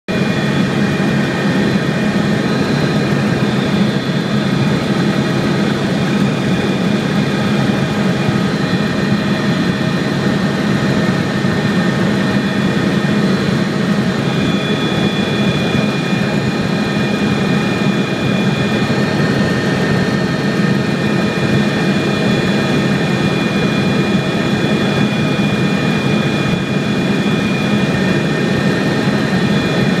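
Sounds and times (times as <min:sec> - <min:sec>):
aircraft engine running: 0:00.1 - 0:30.0.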